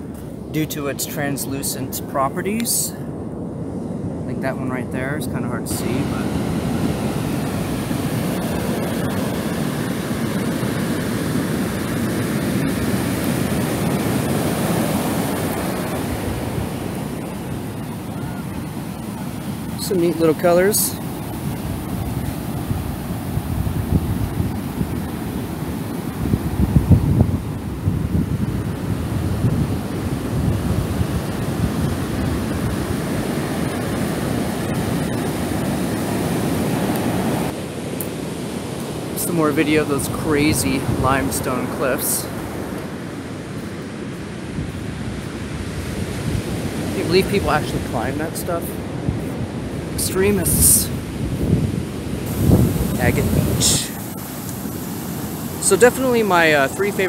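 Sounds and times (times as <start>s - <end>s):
wind rumbling on microphone: 0.0s - 39.2s, 39.9s - 57.0s
ocean surf on beach: 0.0s - 57.0s.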